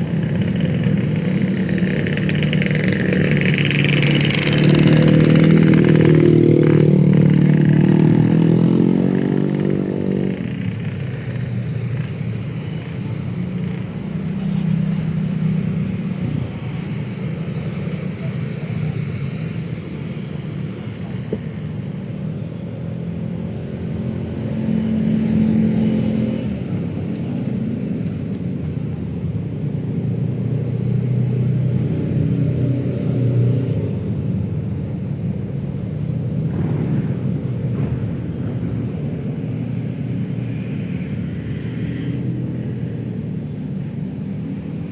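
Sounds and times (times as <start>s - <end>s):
traffic hum of engines and tyres: 0.0s - 44.9s
vehicle engine passing close: 0.0s - 44.9s.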